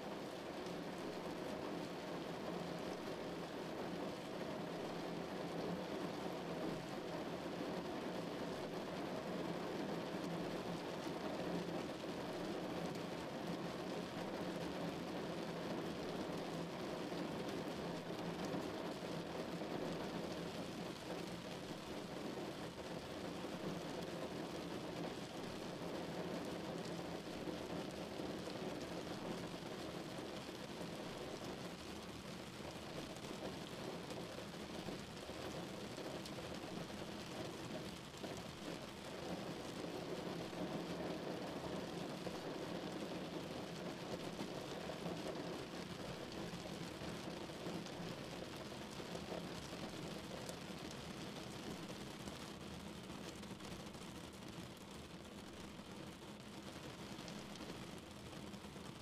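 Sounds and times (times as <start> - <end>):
rain on car roof: 0.0 - 59.0.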